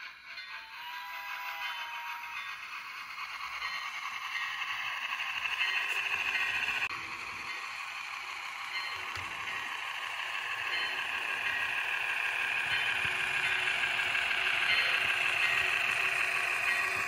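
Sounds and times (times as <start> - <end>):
model locomotive motor whirring: 0.0 - 17.0.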